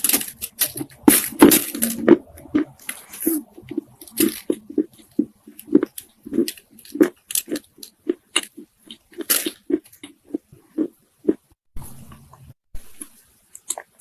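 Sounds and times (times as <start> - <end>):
chewing clay crunches: 0.1 - 14.0.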